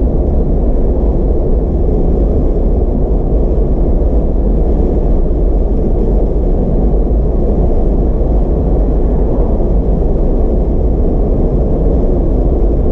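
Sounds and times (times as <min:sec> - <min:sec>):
car tyre roar and engine: 0:00.0 - 0:12.9.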